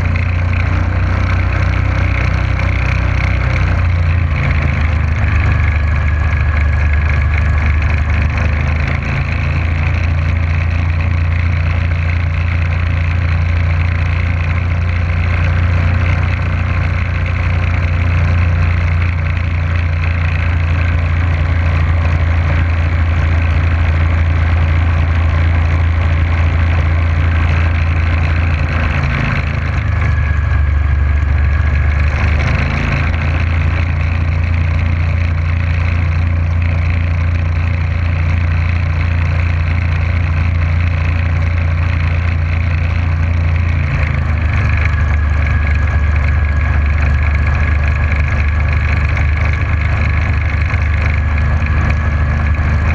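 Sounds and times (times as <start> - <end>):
motorboat engine running: 0.0 - 52.9.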